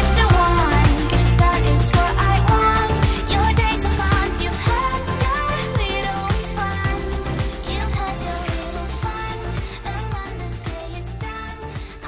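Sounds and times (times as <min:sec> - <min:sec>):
upbeat pop music: 0:00.0 - 0:12.0.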